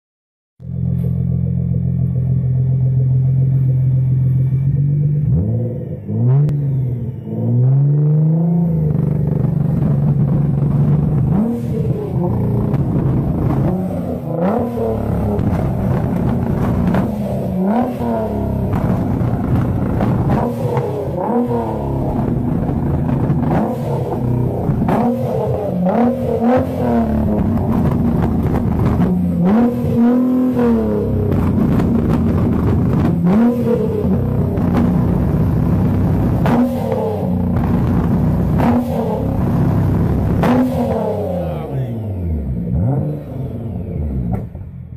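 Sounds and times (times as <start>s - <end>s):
sports car engine revving: 0.6s - 44.9s
exhaust popping and crackling: 8.0s - 44.9s.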